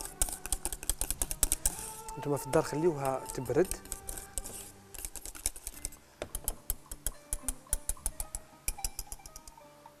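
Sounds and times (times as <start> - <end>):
wire whisk clicking in saucepan: 0.0 - 1.8, 2.6 - 9.6.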